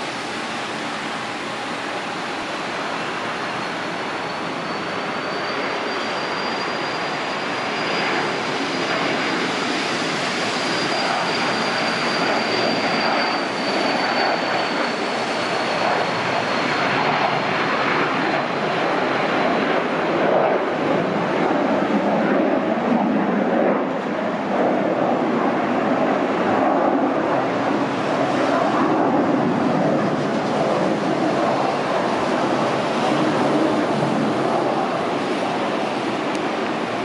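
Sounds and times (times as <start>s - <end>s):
high jet fan whine: 0.0s - 37.0s
jet engine rush: 0.0s - 37.0s.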